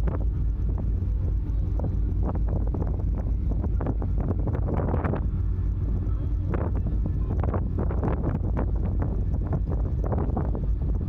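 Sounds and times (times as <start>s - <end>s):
low ship engine rumble: 0.0s - 11.0s
wind buffeting microphone: 0.0s - 11.0s.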